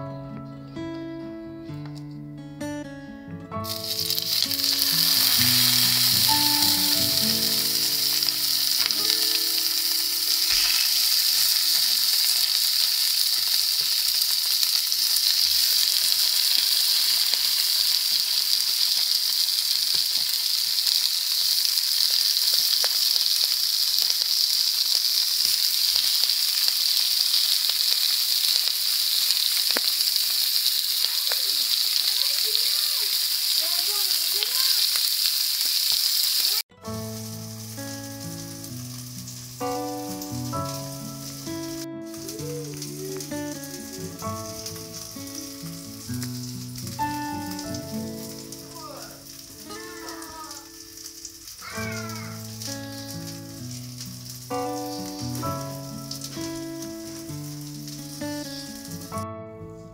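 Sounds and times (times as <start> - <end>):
fish sizzling in hot oil: 3.6 - 59.2.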